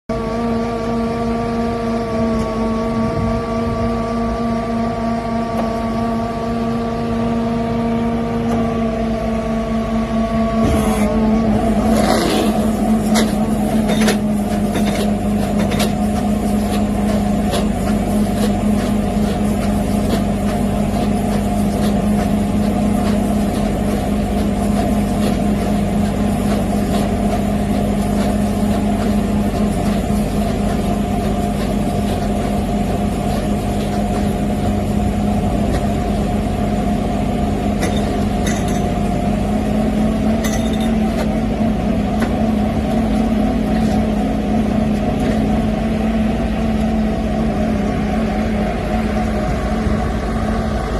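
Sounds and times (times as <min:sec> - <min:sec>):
baling machine droning: 0:00.1 - 0:50.9.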